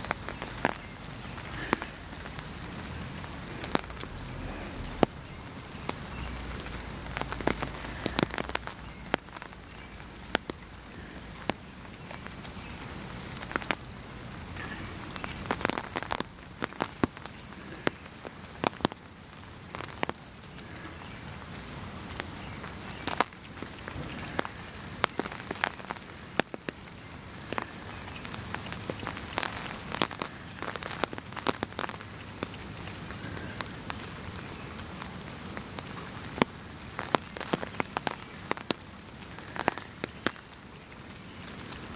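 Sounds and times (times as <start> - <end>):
raindrops tapping close by: 0.0 - 41.9
steady rain falling: 0.0 - 41.9.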